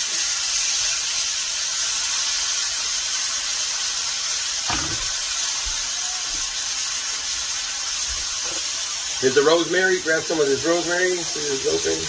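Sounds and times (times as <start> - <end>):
steaks sizzling in skillet: 0.0 - 12.0.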